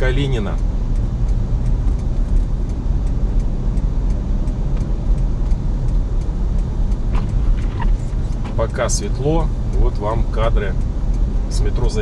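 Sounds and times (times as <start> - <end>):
car driving heard from inside: 0.0 - 12.0
faint even ticking: 0.0 - 12.0.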